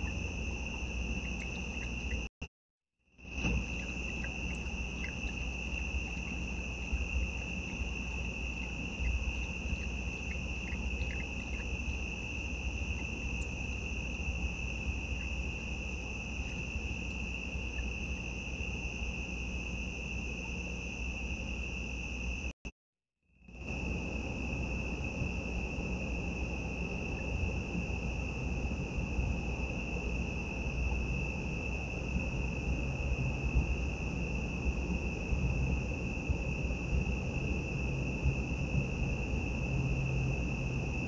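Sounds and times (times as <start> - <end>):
crickets chirping: 0.0 - 2.4, 3.2 - 22.6, 23.4 - 41.0.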